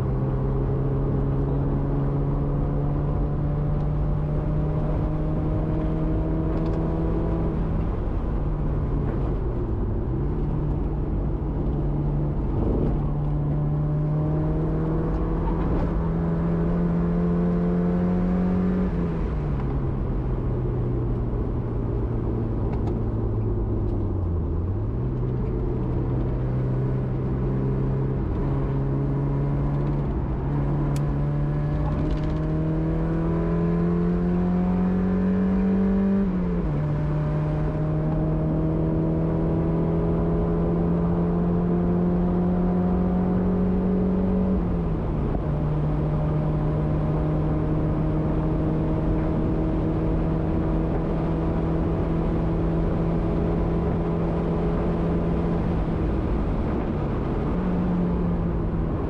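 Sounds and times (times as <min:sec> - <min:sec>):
car engine revving under hard driving: 0:00.0 - 0:59.0.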